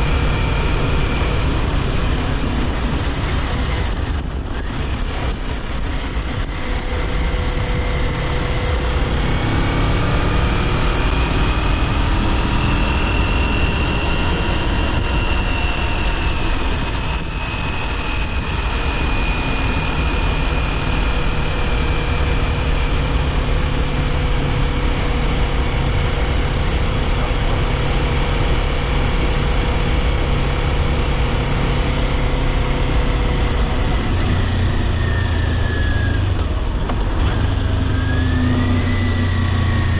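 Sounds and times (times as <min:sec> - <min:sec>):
motorcycle engine running: 0:00.0 - 0:39.9
wind and road rush: 0:00.0 - 0:39.9.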